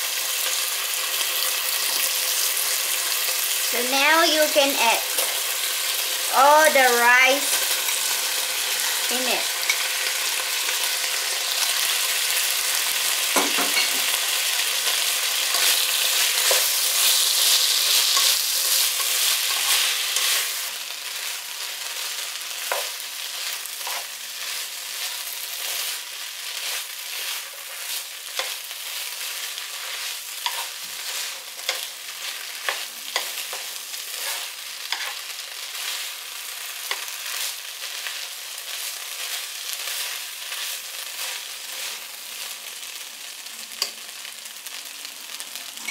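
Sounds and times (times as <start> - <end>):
rice sizzling in oil: 0.0 - 45.9.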